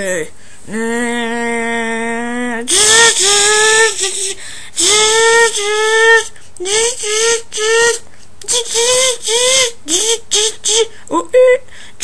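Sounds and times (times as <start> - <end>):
voice imitating car engines: 0.0 - 11.7.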